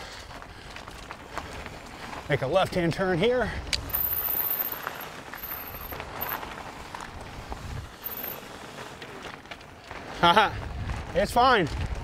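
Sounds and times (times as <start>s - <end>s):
bike clicks and rattles: 0.0s - 12.0s
tyres rolling on dirt: 0.0s - 12.0s.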